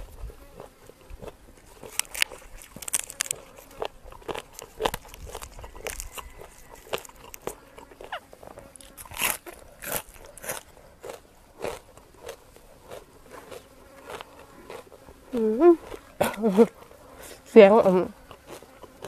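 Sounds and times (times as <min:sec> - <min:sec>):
person chewing crunchy food: 0:00.0 - 0:17.3, 0:18.2 - 0:19.0.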